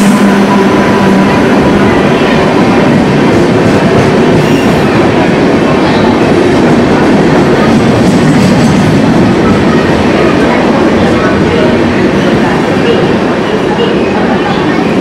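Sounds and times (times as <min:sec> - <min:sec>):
passenger train rumbling on rails: 0:00.0 - 0:15.0.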